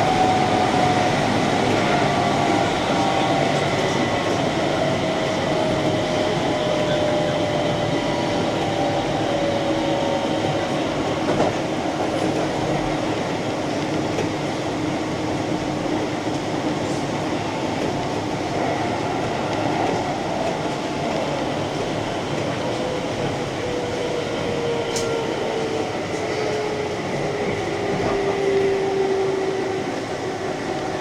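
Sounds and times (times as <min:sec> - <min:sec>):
train humming tones: 0:00.0 - 0:31.0.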